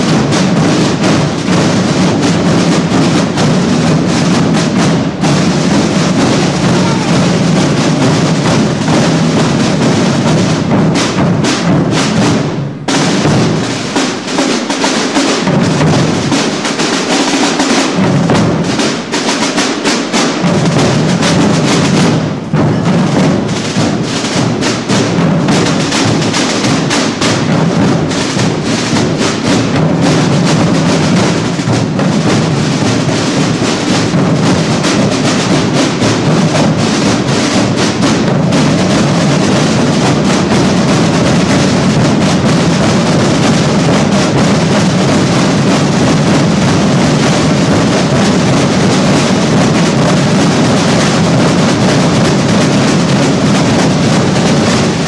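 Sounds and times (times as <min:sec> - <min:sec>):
marching field drums: 0:00.0 - 0:55.0.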